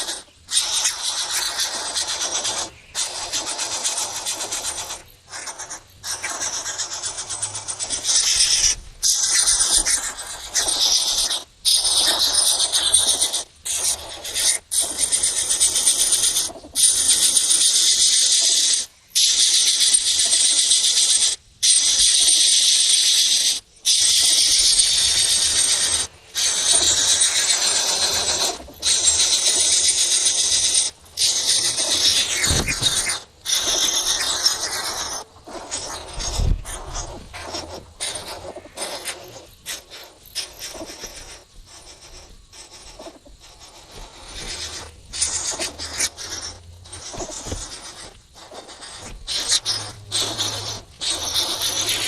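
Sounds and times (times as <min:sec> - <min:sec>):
flock of small birds chattering: 0:00.0 - 0:52.0.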